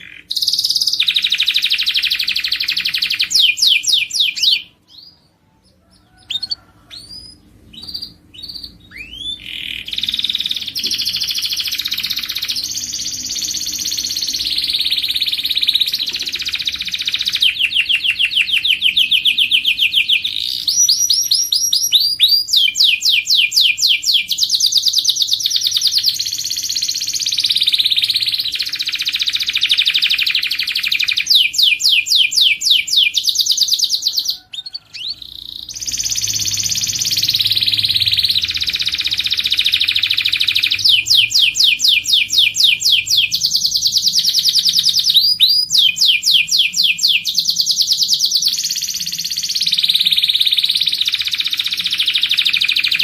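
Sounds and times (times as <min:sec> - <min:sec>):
canary chirps: 0:00.0 - 0:53.0
canary song with rapid trills: 0:00.0 - 0:53.0.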